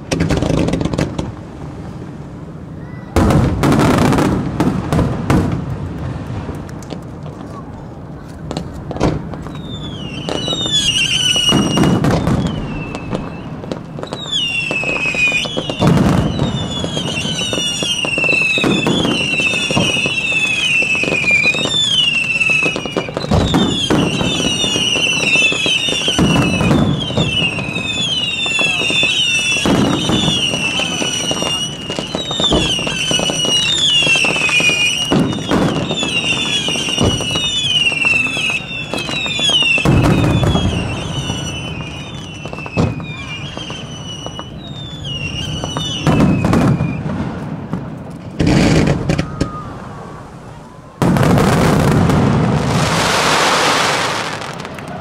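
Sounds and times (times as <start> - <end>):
crackling hiss: 0.0 - 55.0
firework whistles: 8.5 - 55.0.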